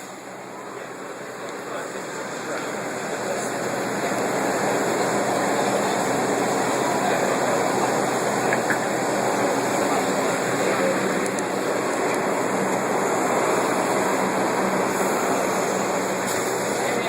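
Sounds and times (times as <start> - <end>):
subway train wheel and rail noise: 0.0 - 17.0.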